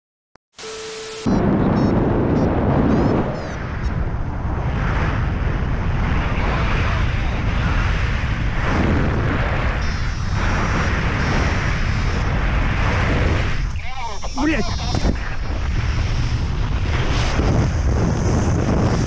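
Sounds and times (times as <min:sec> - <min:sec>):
wind buffeting microphone: 0:01.3 - 0:19.0.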